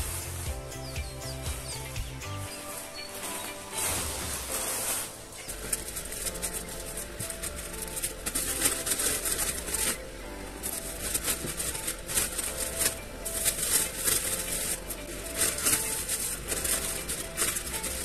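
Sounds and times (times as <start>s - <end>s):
plastic packets rustling and crinkling: 0.0s - 18.0s.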